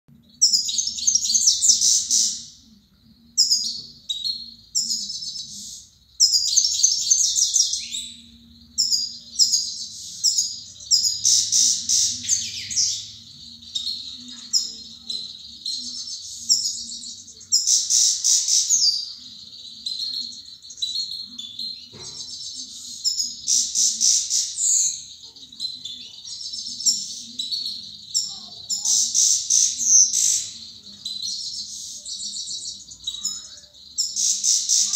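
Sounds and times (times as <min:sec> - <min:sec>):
songbird twittering: 0:00.1 - 0:02.7, 0:03.3 - 0:34.9.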